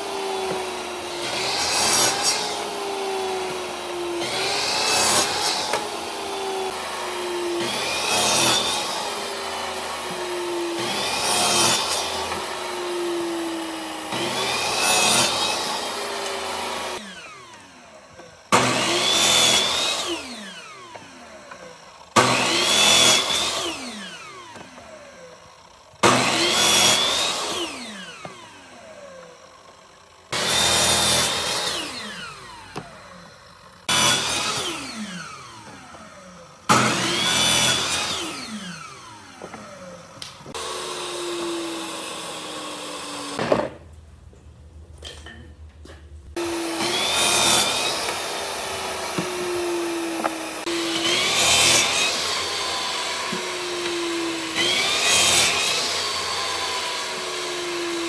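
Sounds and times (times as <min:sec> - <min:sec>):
electric power tool motor: 0:00.0 - 0:43.4, 0:46.4 - 0:58.0.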